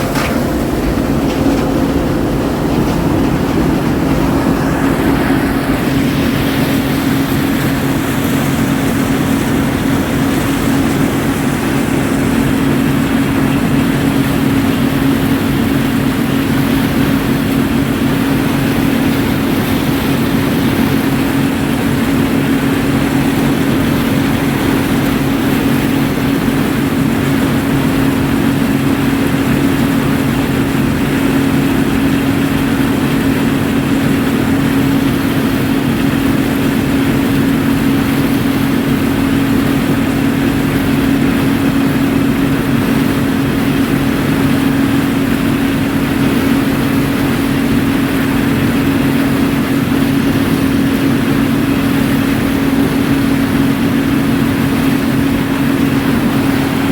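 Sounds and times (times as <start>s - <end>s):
combine harvester engine drone: 0.0s - 56.9s.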